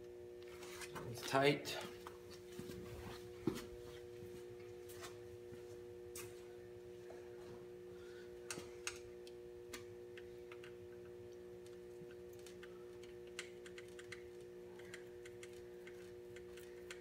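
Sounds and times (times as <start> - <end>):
low hum: 2.6 - 17.0.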